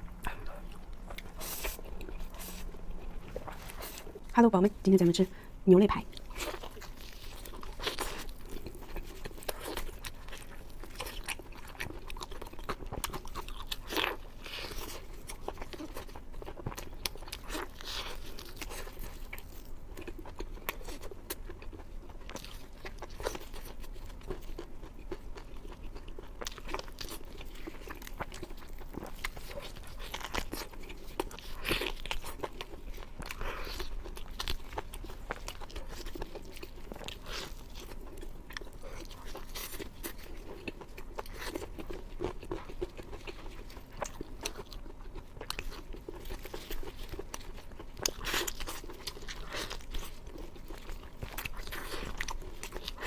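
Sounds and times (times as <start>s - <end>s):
person crunching and chewing: 0.0s - 4.4s, 6.1s - 53.0s.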